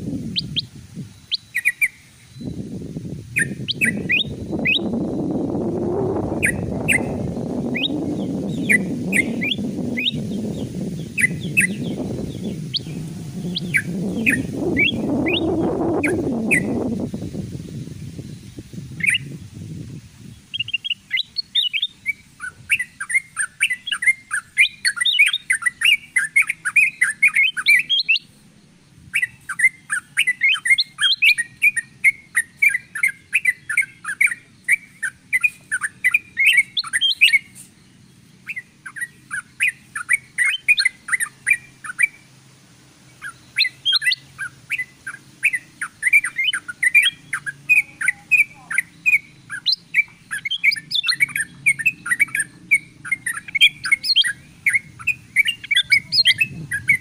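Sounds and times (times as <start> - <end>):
bulbuls chirping: 0.0 - 57.0.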